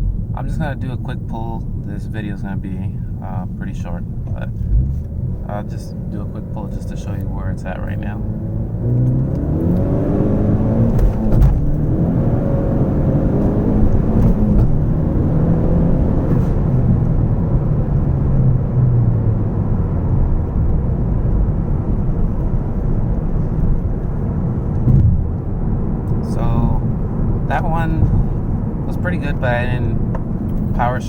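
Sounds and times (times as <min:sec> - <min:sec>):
car engine accelerating: 0:00.0 - 0:31.0
road rumble: 0:00.0 - 0:31.0.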